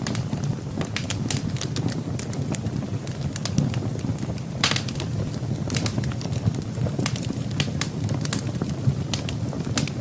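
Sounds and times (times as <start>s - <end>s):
firewood crackling in fireplace: 0.0s - 10.0s.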